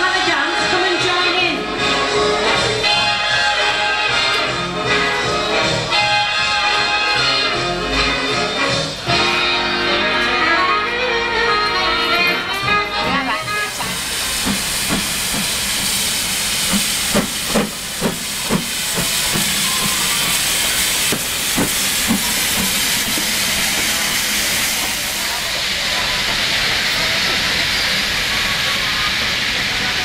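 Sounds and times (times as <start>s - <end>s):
locomotive steam hissing: 0.1s - 30.0s.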